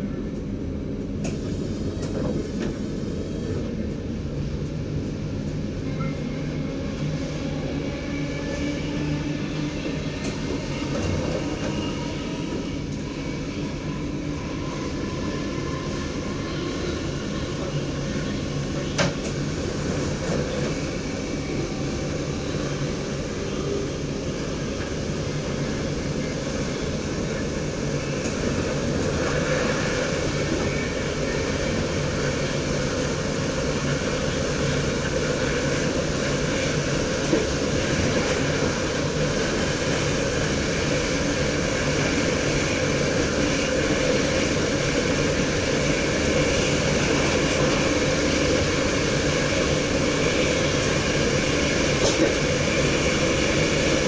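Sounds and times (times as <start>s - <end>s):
train hum: 0.0s - 54.0s
train wheels rumbling on rail: 0.0s - 54.0s.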